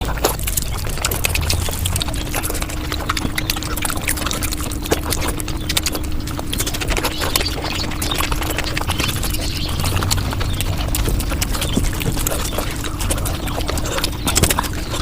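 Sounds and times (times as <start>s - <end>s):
sped-up chewing and lip-smacks: 0.0s - 15.0s.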